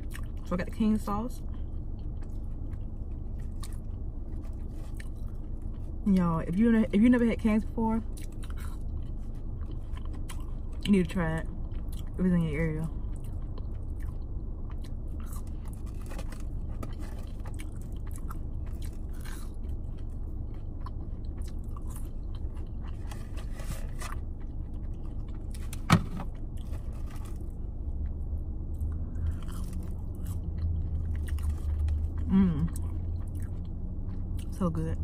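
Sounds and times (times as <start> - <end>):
chewing fries: 0.0 - 0.8, 1.4 - 34.7
low rumble: 0.0 - 35.0.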